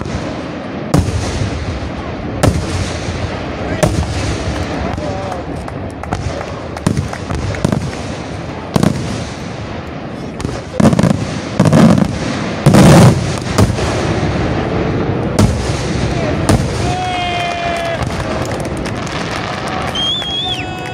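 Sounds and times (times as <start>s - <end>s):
fireworks bursting: 0.0s - 20.9s.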